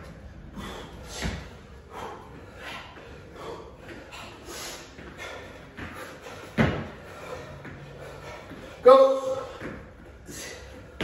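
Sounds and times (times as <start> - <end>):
men breathing heavily: 0.0 - 11.0.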